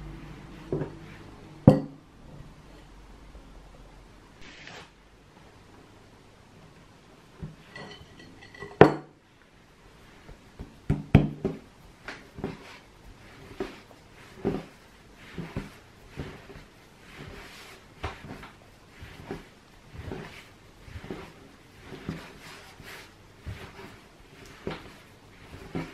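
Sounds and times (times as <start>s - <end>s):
dough kneaded on wooden table: 0.0s - 25.9s.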